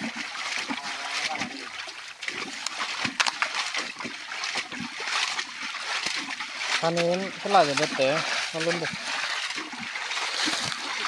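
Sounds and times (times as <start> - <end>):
wading through muddy water: 0.0 - 11.0.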